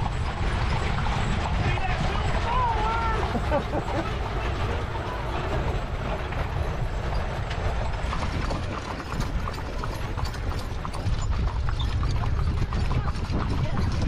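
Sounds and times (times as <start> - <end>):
hooves clip-clopping on pavement: 0.0 - 14.0.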